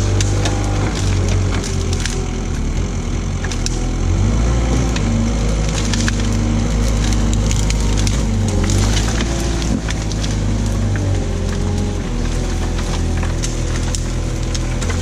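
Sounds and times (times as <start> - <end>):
branches cracking and snapping: 0.0 - 15.0
loader engine running: 0.0 - 15.0.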